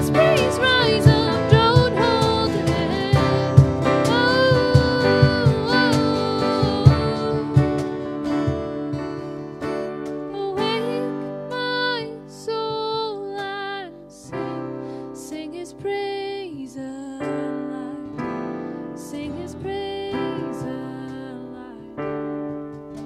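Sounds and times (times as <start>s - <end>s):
woman singing: 0.0s - 8.5s, 10.2s - 22.2s
acoustic guitar and piano: 0.0s - 23.0s.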